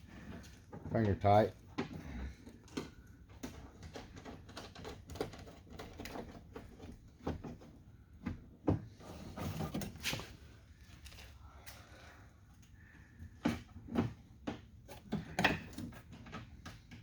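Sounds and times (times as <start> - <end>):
clicks knocks and rattles of parts: 0.0 - 10.3, 12.6 - 17.0.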